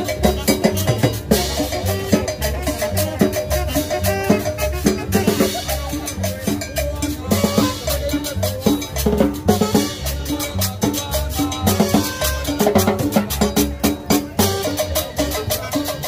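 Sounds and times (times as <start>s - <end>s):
latin dance music: 0.0s - 16.0s.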